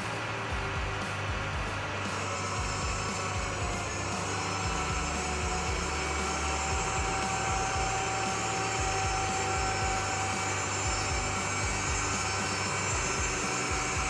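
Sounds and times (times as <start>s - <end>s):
combine engine whirring whine: 0.0s - 14.0s.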